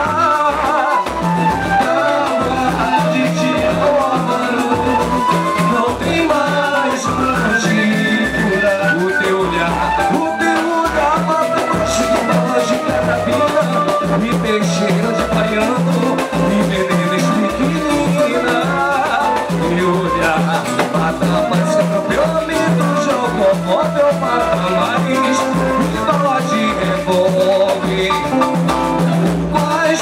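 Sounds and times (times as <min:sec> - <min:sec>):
band melody: 0:00.0 - 0:30.0
samba percussion groove: 0:00.0 - 0:30.0.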